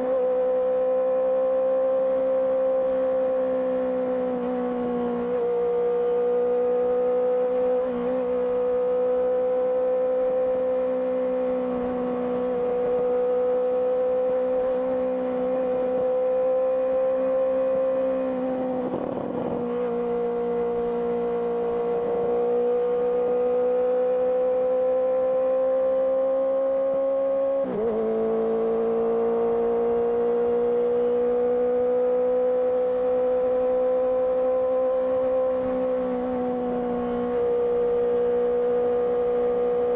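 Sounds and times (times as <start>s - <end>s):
motorcycle engine revving: 5.0s - 39.9s.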